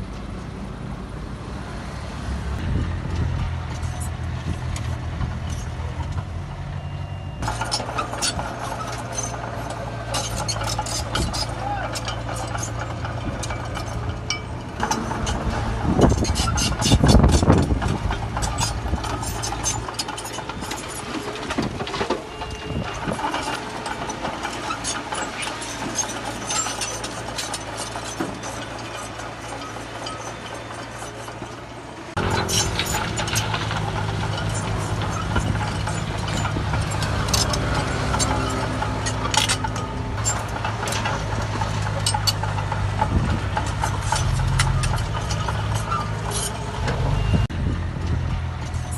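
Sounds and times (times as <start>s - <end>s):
heavy machinery diesel engines: 0.0s - 48.9s
equipment clanks and rattles: 2.6s - 48.9s.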